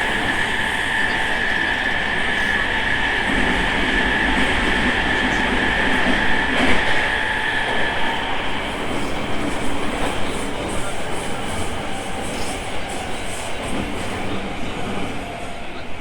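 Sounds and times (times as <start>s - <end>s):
electric train high whine: 0.0s - 16.0s.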